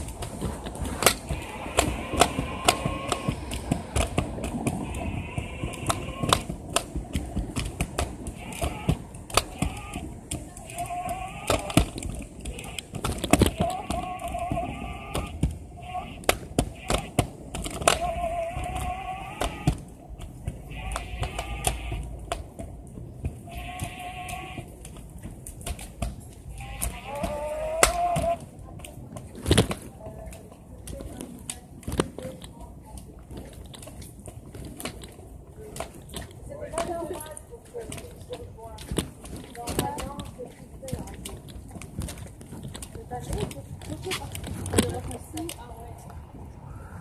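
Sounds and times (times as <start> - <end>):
clicks and knocks over bumps: 0.0 - 46.2
scooter rolling on concrete: 0.0 - 47.0
wheels and frame rattling: 0.0 - 47.0.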